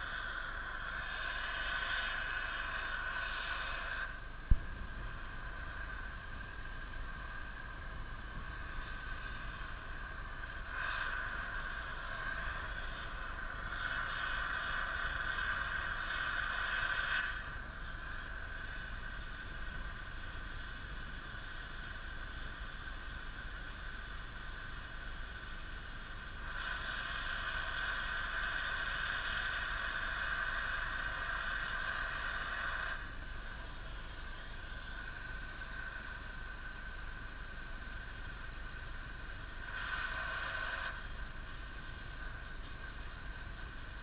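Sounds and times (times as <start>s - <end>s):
cutting torch hissing: 0.0s - 44.0s.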